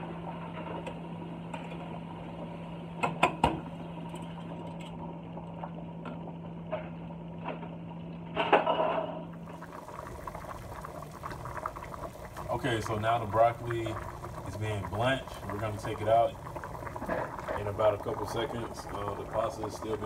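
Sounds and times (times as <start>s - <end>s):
water boiling in a pot: 0.0s - 8.4s, 9.2s - 20.0s
steady low hum: 0.0s - 20.0s.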